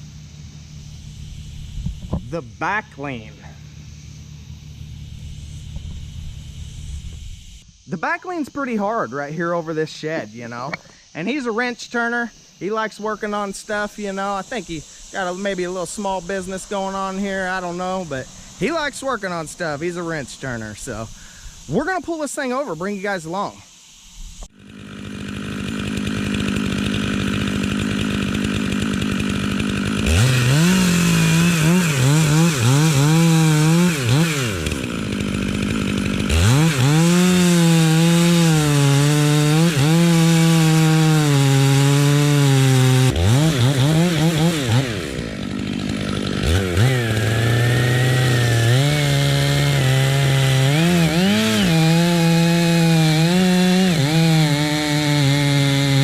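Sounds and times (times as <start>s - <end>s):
chainsaw cutting a tree: 0.0s - 2.6s, 3.2s - 7.6s, 12.5s - 22.0s, 24.4s - 56.0s.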